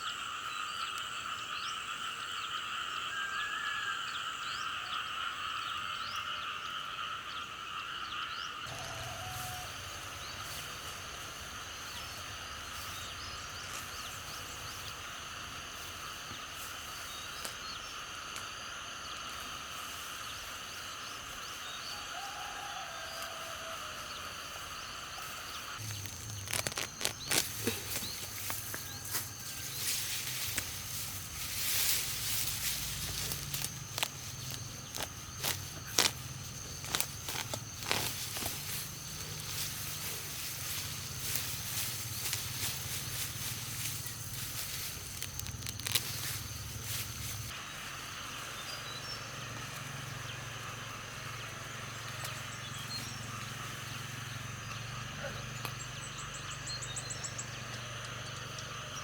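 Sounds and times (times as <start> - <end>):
frogs calling: 0.0 - 59.0.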